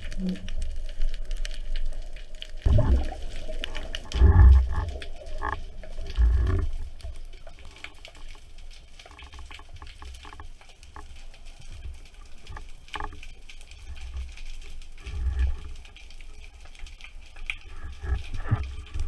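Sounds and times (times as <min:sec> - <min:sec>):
faint clicks: 0:00.0 - 0:19.0
underwater crackling: 0:00.0 - 0:19.0
underwater rush of water: 0:00.0 - 0:19.0.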